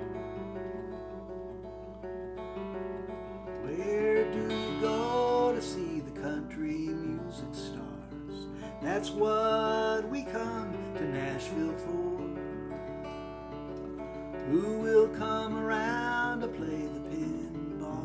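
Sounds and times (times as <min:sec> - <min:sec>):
acoustic guitar strumming: 0:00.0 - 0:18.0
sliding guitar melody: 0:00.0 - 0:18.0.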